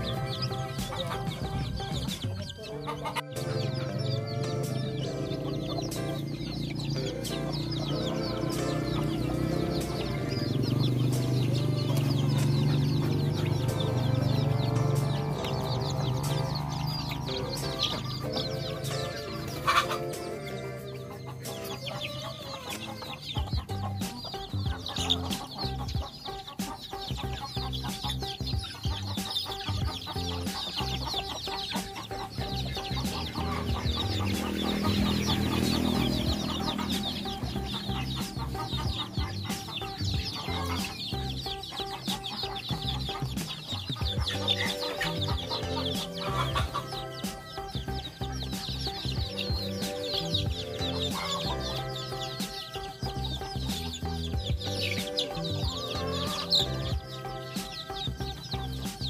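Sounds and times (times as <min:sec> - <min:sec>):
background music: 0:00.0 - 0:59.0
chicks peeping and cheeping: 0:00.0 - 0:59.0.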